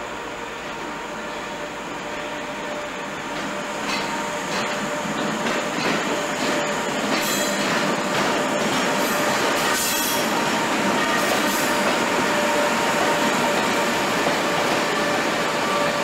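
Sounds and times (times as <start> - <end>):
train wheel squeal: 1.2 - 16.0
train wheels clicking on rails: 3.2 - 16.0.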